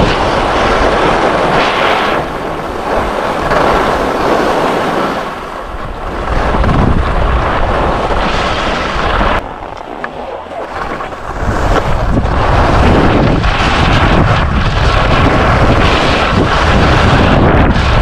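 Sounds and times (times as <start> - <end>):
skis scraping on hard snow: 0.0 - 18.0
wind rushing over microphone: 0.0 - 18.0.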